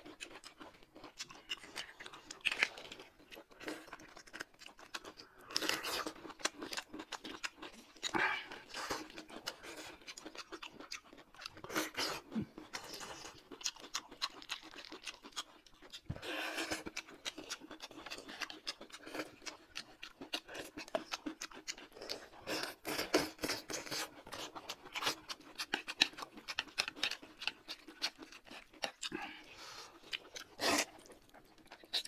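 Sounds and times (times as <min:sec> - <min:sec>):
people chewing and smacking: 0:00.0 - 0:32.0.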